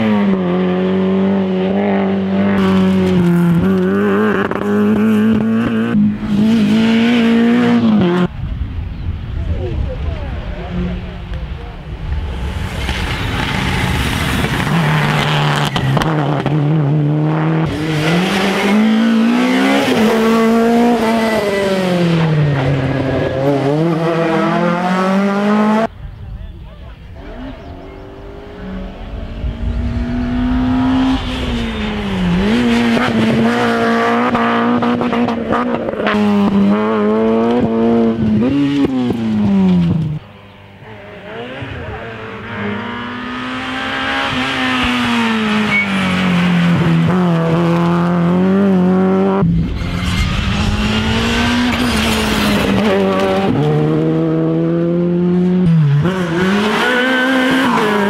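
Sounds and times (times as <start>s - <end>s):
rally cars revving past: 0.0s - 8.3s, 12.1s - 25.9s, 27.2s - 40.2s, 40.8s - 58.0s.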